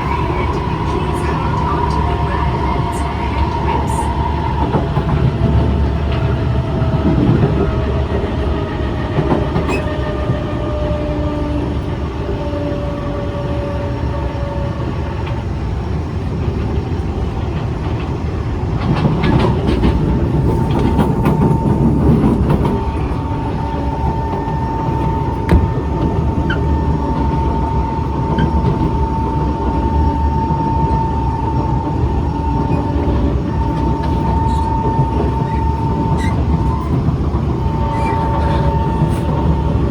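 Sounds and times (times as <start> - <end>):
train motor tones: 0.0 - 15.5, 18.8 - 39.9
train wheels rumbling on rails: 0.0 - 39.9.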